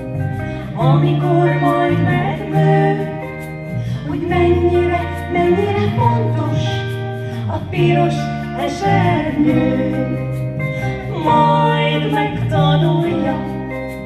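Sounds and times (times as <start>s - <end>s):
electric guitar: 0.0s - 14.0s
two women singing: 0.0s - 14.0s.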